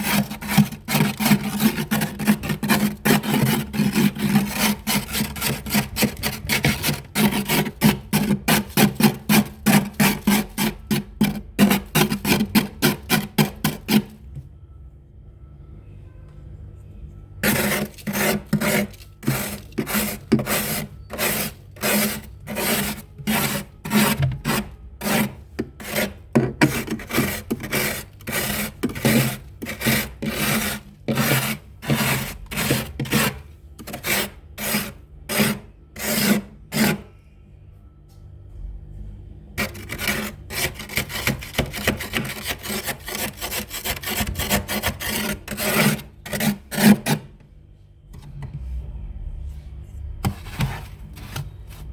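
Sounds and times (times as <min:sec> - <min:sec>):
scraping ice in freezer: 0:00.0 - 0:14.4, 0:17.4 - 0:37.2, 0:39.6 - 0:47.4, 0:50.0 - 0:51.9.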